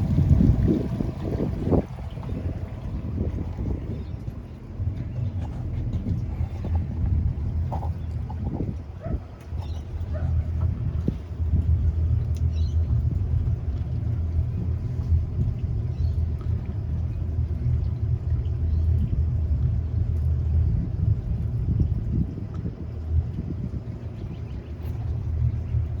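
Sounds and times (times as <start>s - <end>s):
outboard engines rumbling: 0.0s - 26.0s.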